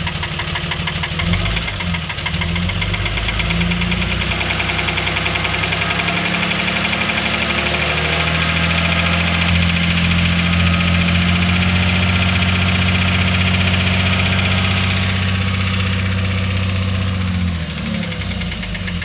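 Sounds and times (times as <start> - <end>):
pickup engine knocking: 0.0 - 7.6, 8.5 - 19.0.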